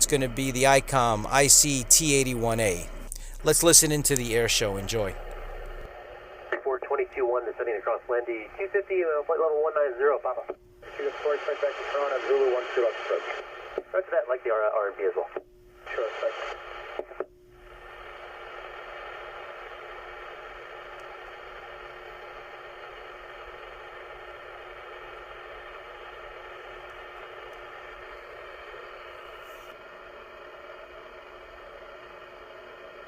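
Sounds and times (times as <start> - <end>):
radio static hiss: 0.0 - 33.0.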